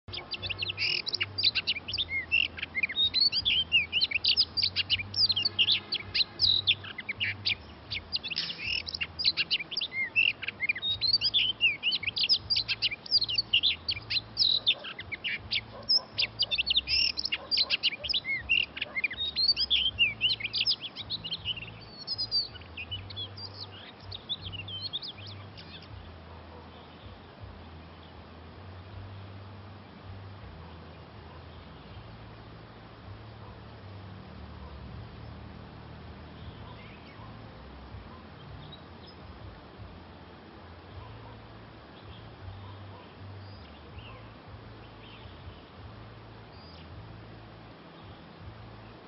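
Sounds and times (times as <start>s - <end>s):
birds singing whistled notes: 0.0s - 49.0s.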